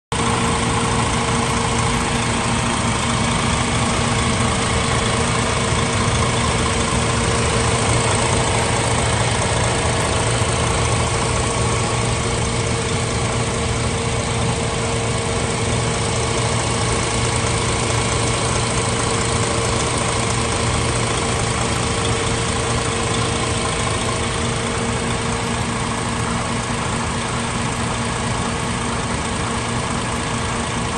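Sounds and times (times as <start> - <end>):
diesel engine idling: 0.1 - 30.9
steady whine: 0.2 - 30.9.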